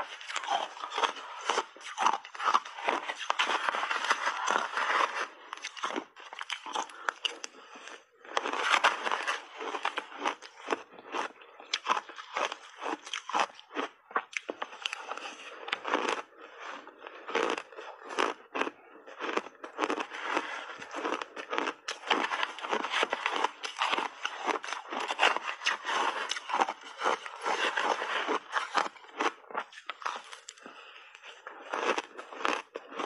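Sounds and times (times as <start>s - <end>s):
crunching and chewing ice: 0.0s - 33.0s.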